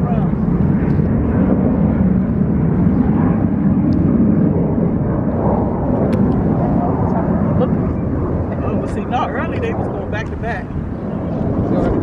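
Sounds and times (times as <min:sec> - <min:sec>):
jets flying over: 0:00.0 - 0:12.0.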